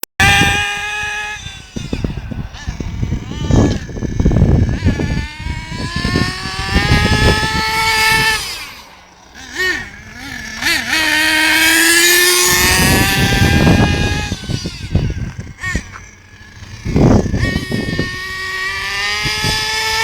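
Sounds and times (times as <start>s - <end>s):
toy car motor whining: 0.2s - 20.0s.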